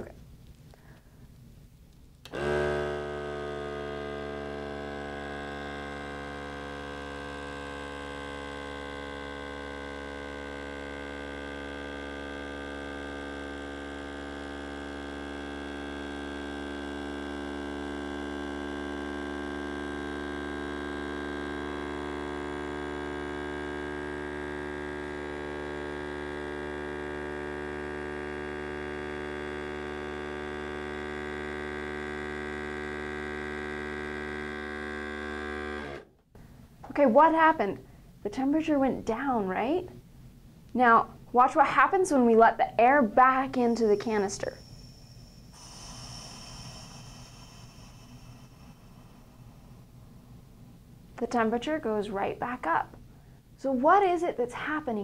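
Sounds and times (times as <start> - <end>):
electric vacuum pump humming: 2.1 - 38.2, 43.2 - 51.7.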